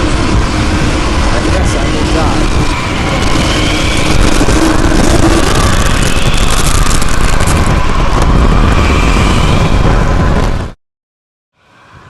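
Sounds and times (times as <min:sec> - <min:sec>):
deep rumble: 0:00.0 - 0:10.8
tornado wind roaring: 0:00.0 - 0:10.8.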